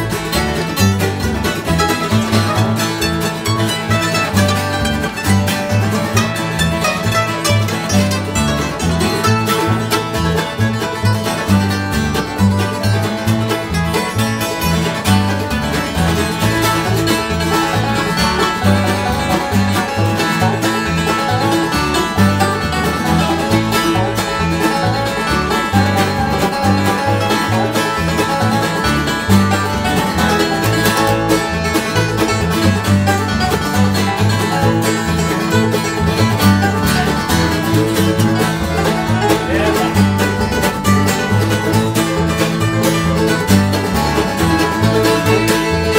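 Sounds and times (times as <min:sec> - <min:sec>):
acoustic guitar: 0:00.0 - 0:45.9
banjo: 0:00.0 - 0:45.9
fiddle: 0:00.0 - 0:45.9
mandolin: 0:00.0 - 0:45.9
upright bass: 0:00.0 - 0:45.9.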